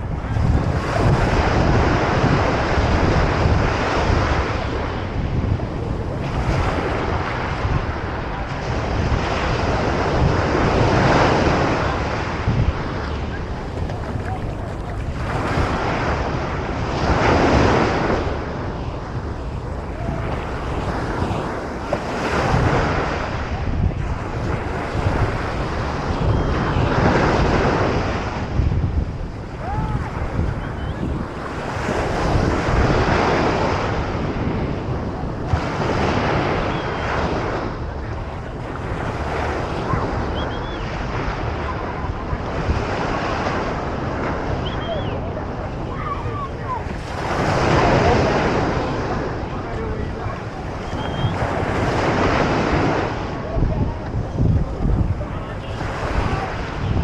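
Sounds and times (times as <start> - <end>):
ocean surf breaking on beach: 0.0 - 57.0
wind rumble on microphone: 0.0 - 57.0.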